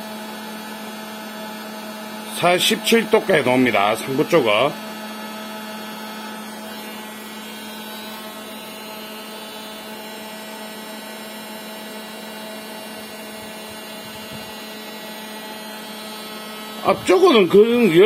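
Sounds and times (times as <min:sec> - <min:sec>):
inverter and cooling fan whirring: 0:00.0 - 0:18.0.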